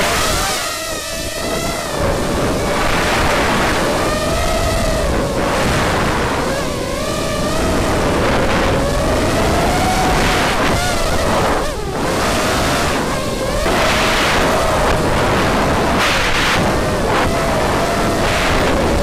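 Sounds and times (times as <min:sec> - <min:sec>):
drone motors whining: 0:00.0 - 0:19.0
wind and propeller rush: 0:00.0 - 0:19.0.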